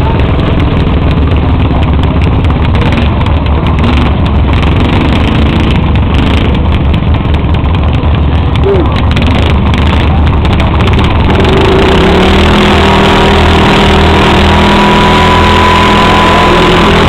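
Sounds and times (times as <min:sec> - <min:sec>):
tractor engine running under load: 0:00.0 - 0:17.0.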